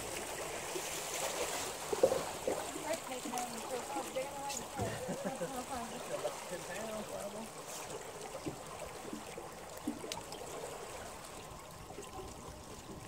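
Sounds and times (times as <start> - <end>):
water trickling and lapping: 0.0 - 13.0.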